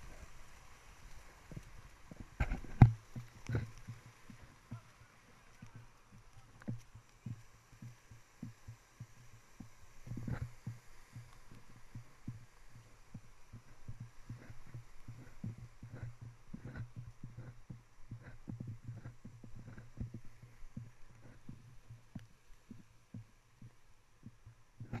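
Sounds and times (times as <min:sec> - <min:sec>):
muffled running footfalls: 0:00.0 - 0:25.0.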